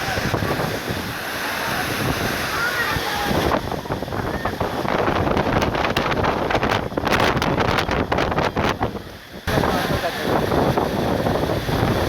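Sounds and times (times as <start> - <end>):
floodwater rushing: 0.0 - 12.0
wind buffeting microphone: 0.0 - 12.0.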